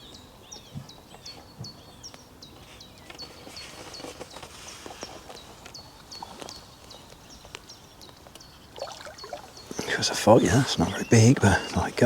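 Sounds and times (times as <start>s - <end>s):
small bird calling: 0.0s - 12.0s.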